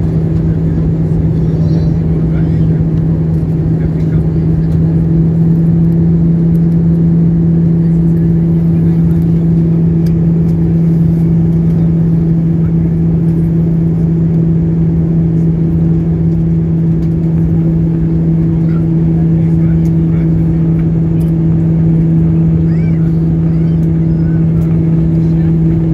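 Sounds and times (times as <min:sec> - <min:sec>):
airliner cabin drone: 0:00.0 - 0:25.9.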